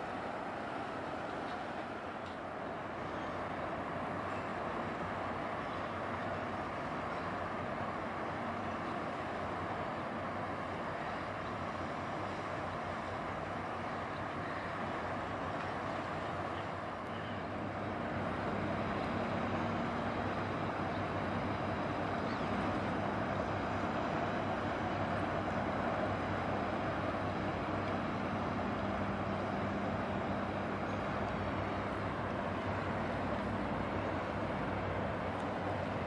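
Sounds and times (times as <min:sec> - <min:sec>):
ship diesel engine rumble: 0:00.0 - 0:36.0.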